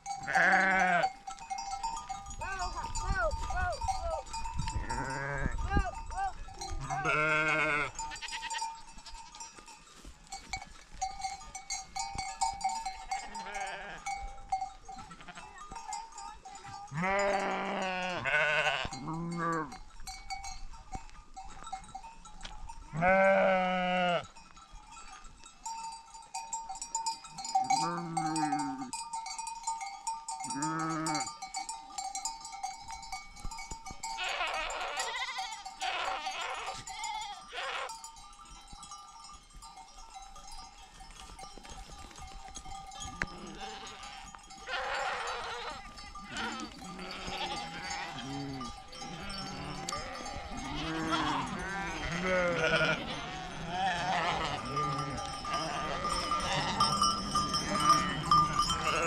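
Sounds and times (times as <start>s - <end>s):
sheep and goats bleating: 0.0s - 29.5s, 30.2s - 38.8s, 41.0s - 59.0s
bells tinkling: 0.0s - 59.0s.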